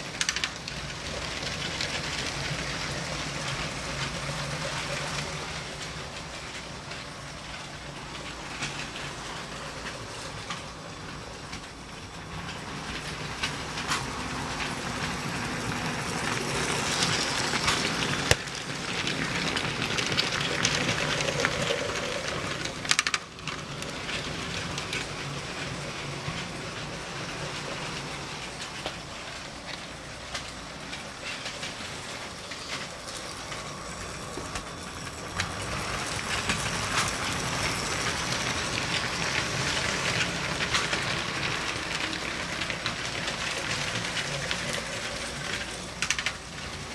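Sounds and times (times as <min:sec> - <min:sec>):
toy train rattling on plastic track: 0:00.0 - 0:46.9.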